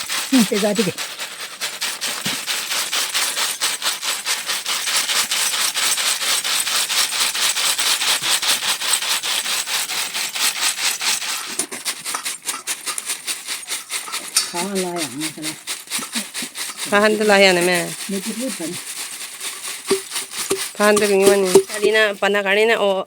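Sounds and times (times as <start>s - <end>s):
rapid scraping strokes: 0.0s - 22.8s.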